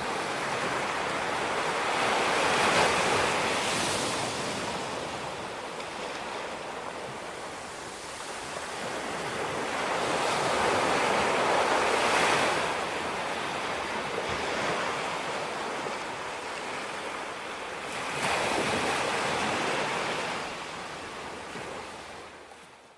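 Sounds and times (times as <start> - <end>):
ocean waves breaking: 0.0 - 22.7.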